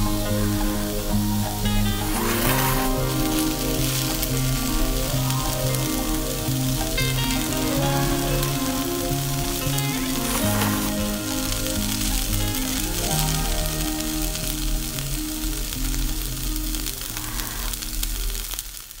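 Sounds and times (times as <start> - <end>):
background music: 0.0 - 18.6
noodles sizzling in a frying pan: 0.0 - 19.0.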